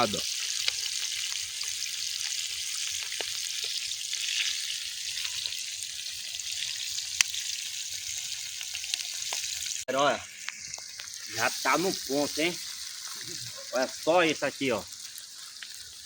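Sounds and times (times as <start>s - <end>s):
oil popping: 0.0s - 14.0s
fish frying in hot oil: 0.0s - 16.0s.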